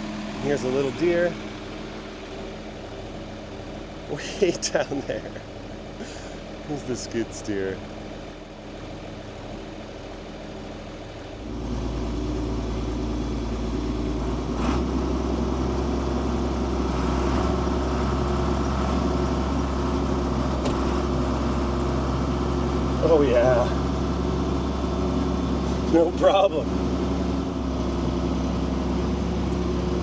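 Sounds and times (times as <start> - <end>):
tractor engine throttling up: 0.0 - 30.0.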